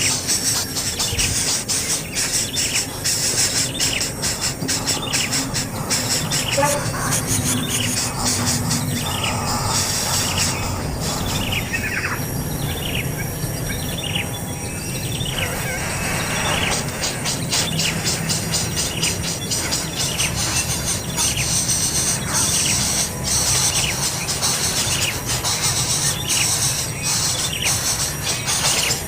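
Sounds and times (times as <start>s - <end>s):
baby bird chirping: 0.0s - 29.0s.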